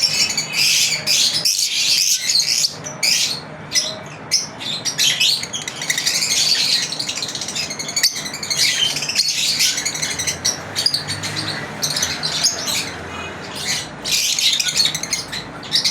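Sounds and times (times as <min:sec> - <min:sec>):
lovebirds chirping: 0:00.0 - 0:15.9.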